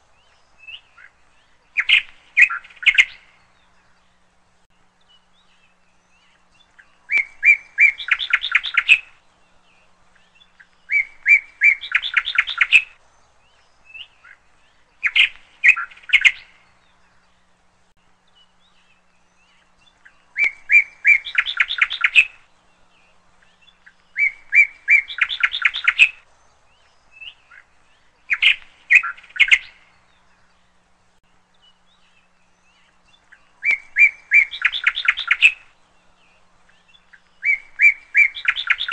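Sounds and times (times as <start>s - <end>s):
songbird singing rapid notes: 0.0s - 38.9s.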